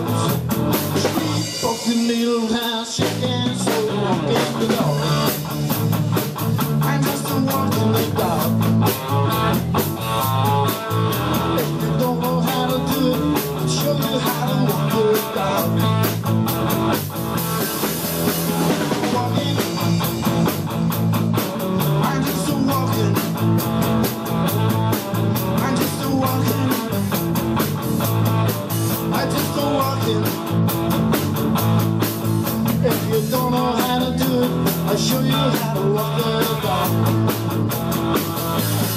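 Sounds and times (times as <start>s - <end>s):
drum kit: 0.0s - 38.9s
electric bass: 0.0s - 38.9s
electric guitar: 0.0s - 38.9s.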